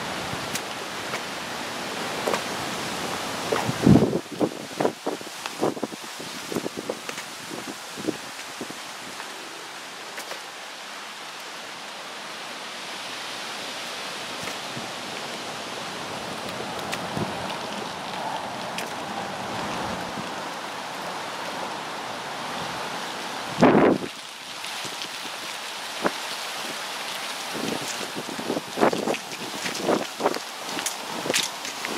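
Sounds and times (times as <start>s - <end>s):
steady outdoor rushing noise: 0.0s - 31.9s.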